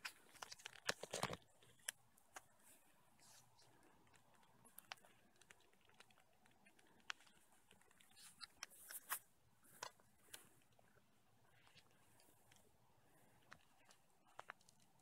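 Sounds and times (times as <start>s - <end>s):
faint clicks and rustles: 0.0s - 15.0s.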